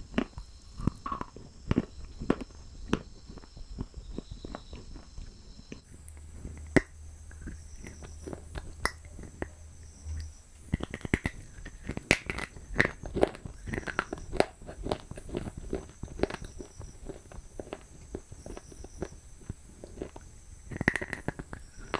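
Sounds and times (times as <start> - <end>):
teeth crunching hard block: 0.0 - 21.9.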